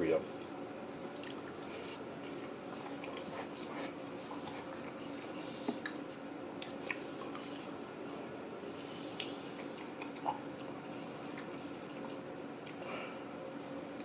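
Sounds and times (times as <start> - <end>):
low room hum: 0.0 - 14.0
person chewing food: 0.3 - 14.0.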